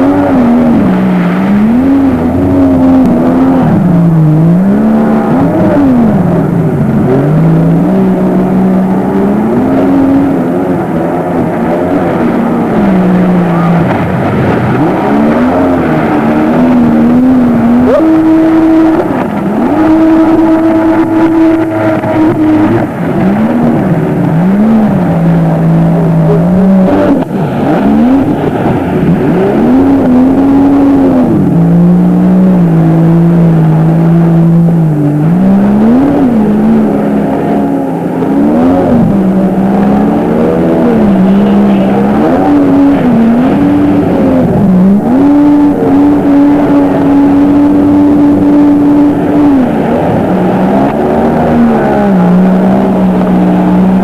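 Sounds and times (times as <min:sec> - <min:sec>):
jet ski engine revving: 0:00.0 - 0:54.0.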